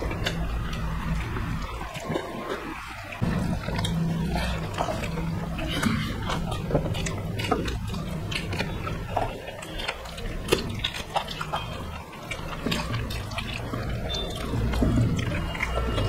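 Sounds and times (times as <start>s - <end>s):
low steady hum: 0.0s - 16.0s
wet chewing and lip smacks: 0.0s - 16.0s.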